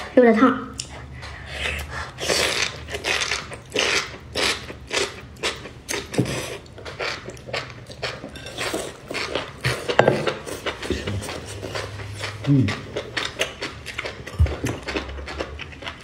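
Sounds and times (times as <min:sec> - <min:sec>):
chewing: 0:00.8 - 0:16.0.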